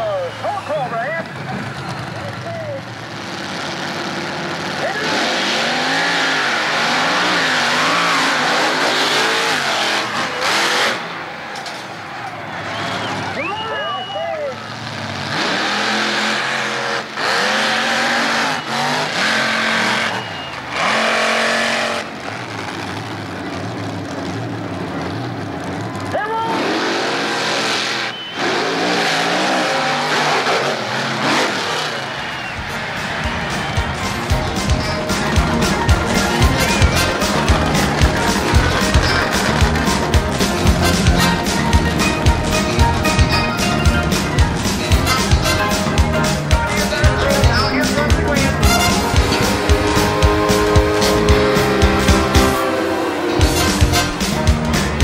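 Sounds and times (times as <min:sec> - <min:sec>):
engine rumble: 0:00.0 - 0:55.0
monster truck engines revving: 0:00.0 - 0:55.0.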